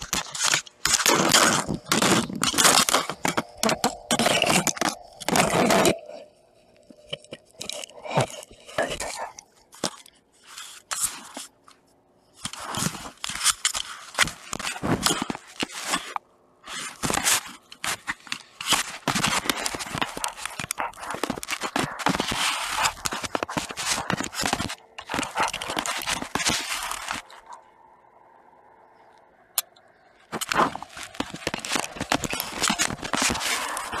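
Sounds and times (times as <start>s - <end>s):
dog chewing on microphone: 0.0s - 10.0s, 12.5s - 27.6s, 30.3s - 34.0s.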